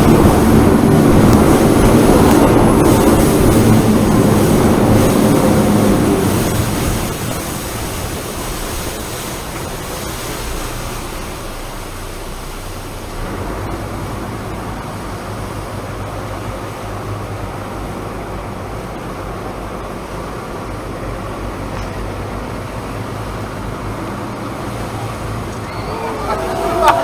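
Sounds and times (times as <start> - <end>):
jet boat rushing through rapids: 0.0 - 27.0.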